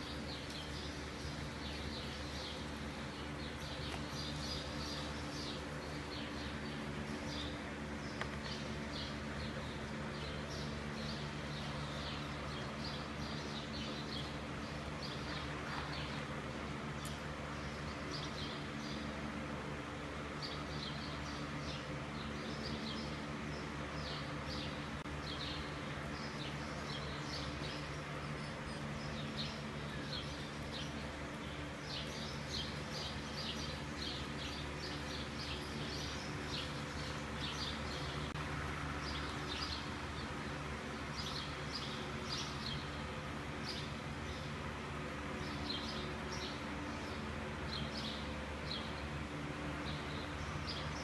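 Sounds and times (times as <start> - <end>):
small birds chirping: 0.0 - 51.0
steady low hum: 0.0 - 51.0.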